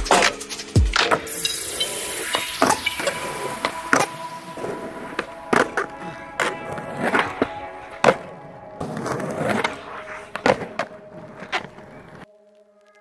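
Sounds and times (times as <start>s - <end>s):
background music: 0.0s - 13.0s
skateboard wheels rolling: 0.1s - 13.0s.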